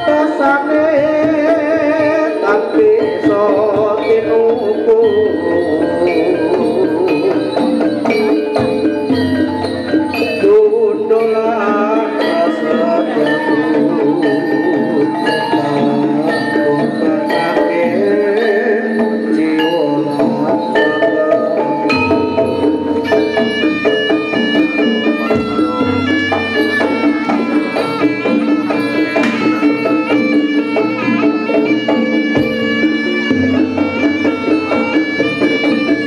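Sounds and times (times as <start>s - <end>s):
drums: 0.0s - 36.0s
gamelan percussion: 0.0s - 36.0s
reedy wind instrument melody: 0.0s - 36.0s.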